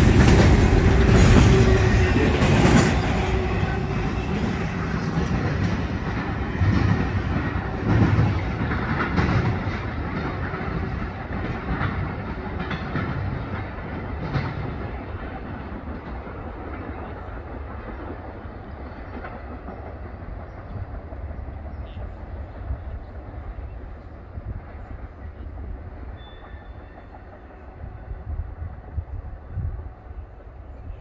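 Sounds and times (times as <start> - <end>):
freight train cars rumbling: 0.0 - 31.0.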